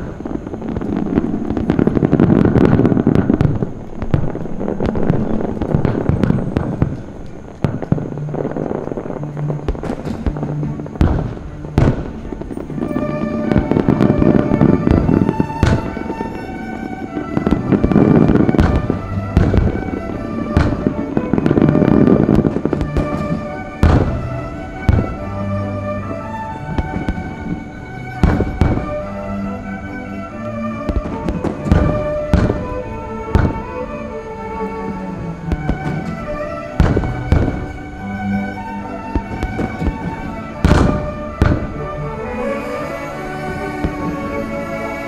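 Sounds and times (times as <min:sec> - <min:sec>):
fireworks bangs and crackle: 0:00.0 - 0:45.0
orchestral music: 0:00.0 - 0:45.0.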